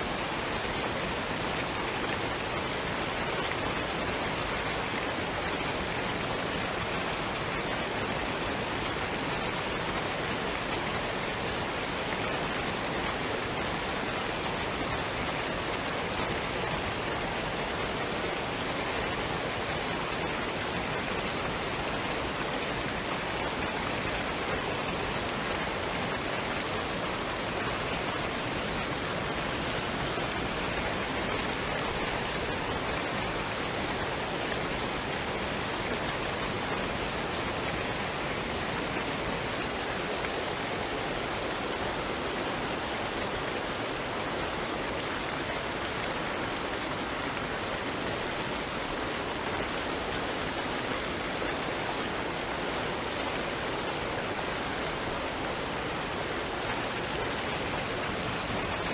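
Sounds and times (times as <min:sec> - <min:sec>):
waterfall and stream rushing: 0:00.0 - 0:58.9.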